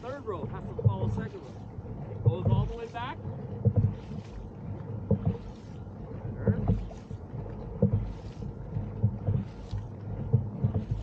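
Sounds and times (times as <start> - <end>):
paddles thumping into water: 0.0 - 11.0
water splashing swish: 0.0 - 11.0
wind on microphone: 0.0 - 11.0.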